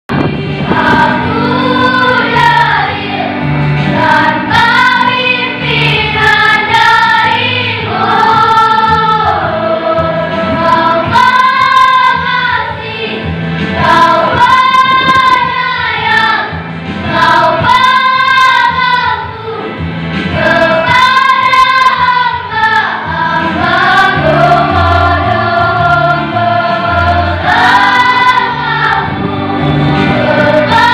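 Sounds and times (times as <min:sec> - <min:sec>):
choir singing: 0:00.1 - 0:30.9.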